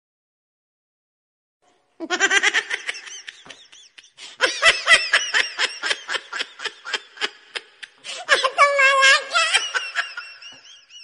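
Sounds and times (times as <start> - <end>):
person laughing: 2.0 - 11.0.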